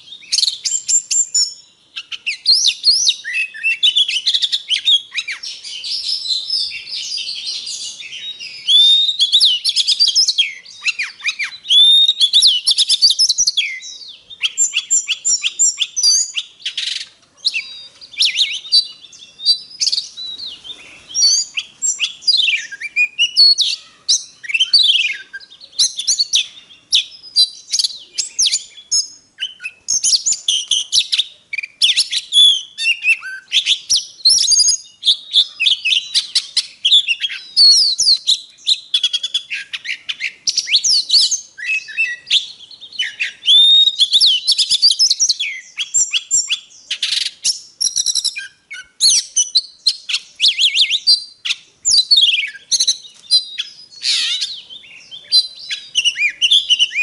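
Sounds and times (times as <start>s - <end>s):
bird singing whistles and chirps: 0.0s - 57.0s.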